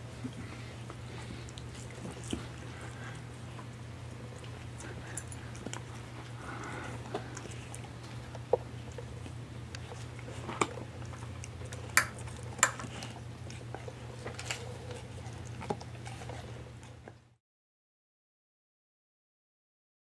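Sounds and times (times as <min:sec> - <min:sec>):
dog gnawing and crunching: 0:00.0 - 0:17.4
low steady hum: 0:00.0 - 0:17.4.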